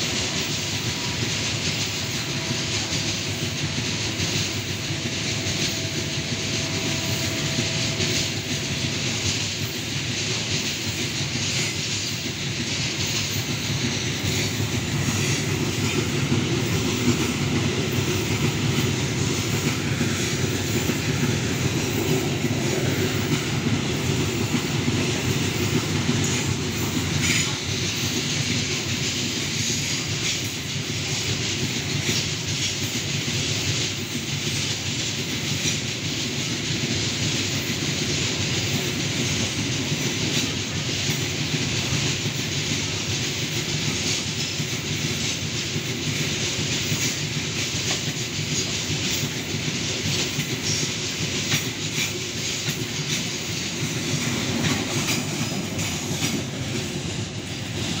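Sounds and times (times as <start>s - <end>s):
train wheels clicking over rail joints: 0.0s - 58.0s.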